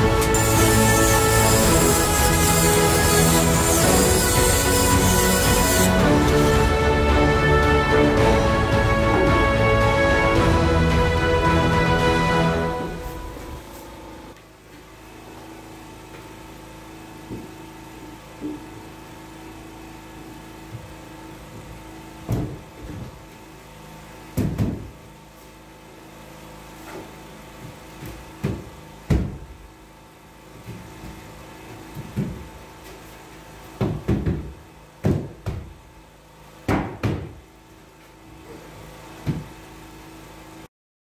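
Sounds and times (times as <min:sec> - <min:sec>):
steady hum: 0:00.0 - 0:33.8.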